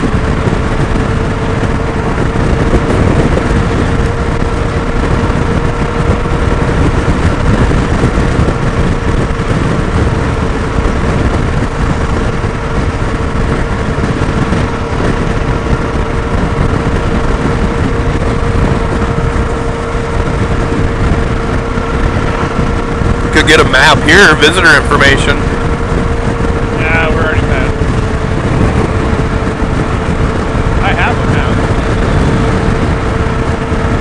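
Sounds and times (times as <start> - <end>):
motorcycle engine drone: 0.0 - 34.0
wind buffeting microphone: 0.0 - 34.0.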